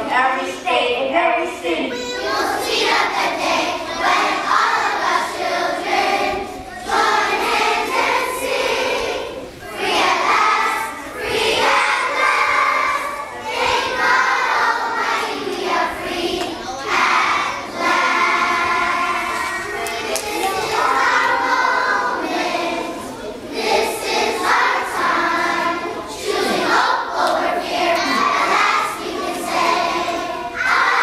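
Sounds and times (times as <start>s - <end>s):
children singing: 1.9s - 31.0s.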